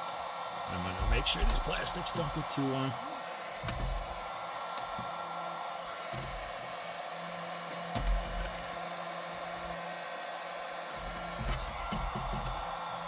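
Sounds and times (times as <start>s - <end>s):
heat gun blowing air: 0.0s - 12.9s.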